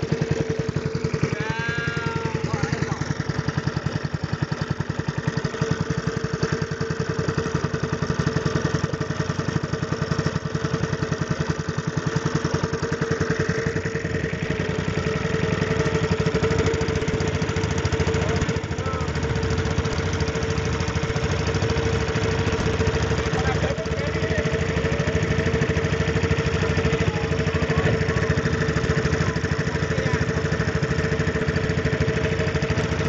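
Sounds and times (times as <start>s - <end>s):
small boat engine running: 0.0s - 33.0s.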